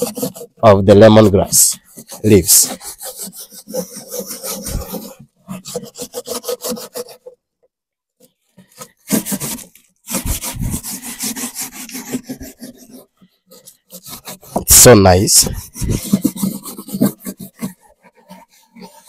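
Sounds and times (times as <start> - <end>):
leaves scrubbing against wood: 0.0 - 7.3, 8.7 - 19.0.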